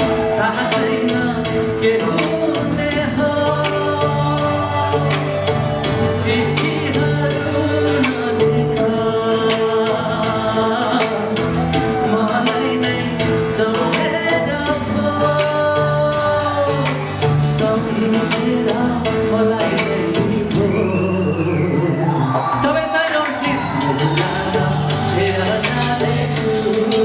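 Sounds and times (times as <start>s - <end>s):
backing music with drum beat: 0.0s - 27.0s
man singing into microphone: 0.0s - 27.0s.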